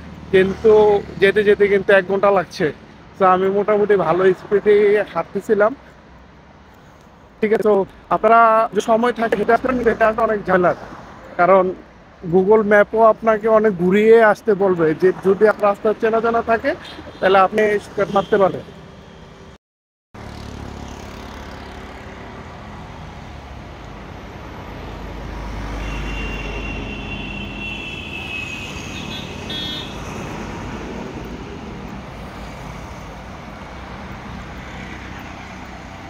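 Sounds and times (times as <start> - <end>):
passing vehicles: 0.0 - 19.6, 20.2 - 36.0.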